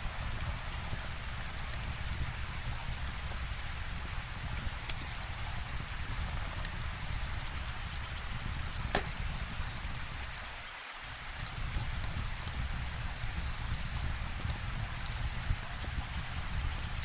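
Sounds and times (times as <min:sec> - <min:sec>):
steady rain: 0:00.0 - 0:17.0
wood fire crackling pops: 0:00.2 - 0:10.4, 0:11.4 - 0:17.0.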